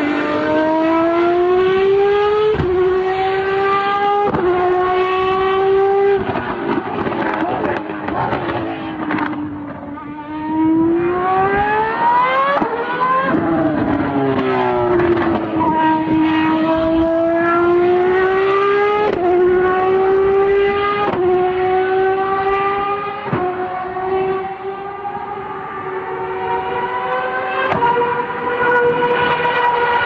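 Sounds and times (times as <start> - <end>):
sports car engine accelerating: 0.0 - 30.0.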